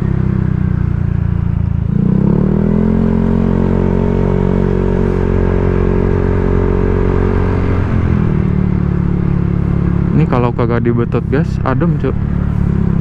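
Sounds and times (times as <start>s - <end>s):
scooter engine revving: 0.0s - 13.0s.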